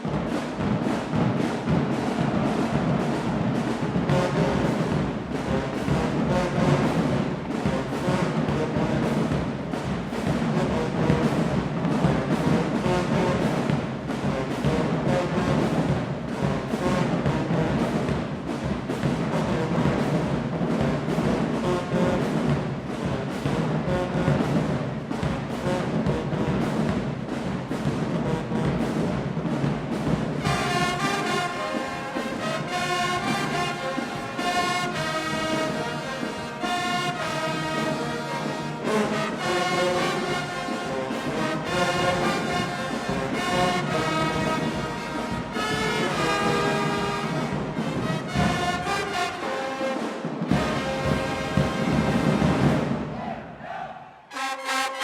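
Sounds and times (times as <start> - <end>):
brass melody: 0.0 - 53.2, 54.3 - 55.0
heavy drumming: 0.0 - 53.3.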